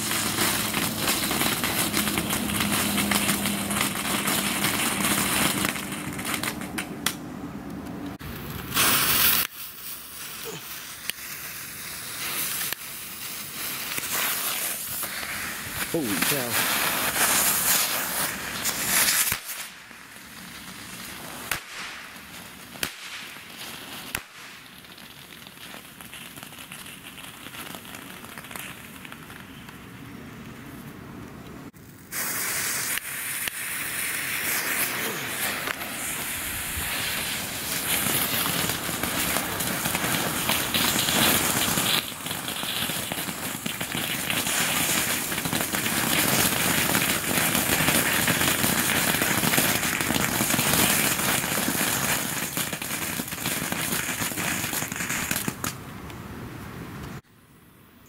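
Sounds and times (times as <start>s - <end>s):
quiet firework fizz: 0.0s - 7.2s, 8.1s - 31.0s, 31.7s - 56.2s
fireworks crackling and hissing: 0.0s - 31.0s, 31.7s - 57.3s.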